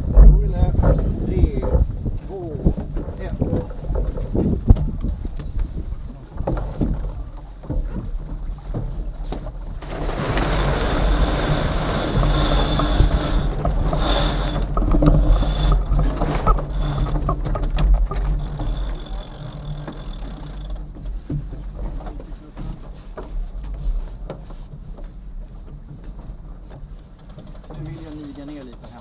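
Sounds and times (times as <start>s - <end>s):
wind buffeting microphone: 0.0s - 27.0s
water noise: 0.0s - 28.4s
boat gear knocks and clicks: 0.0s - 29.0s.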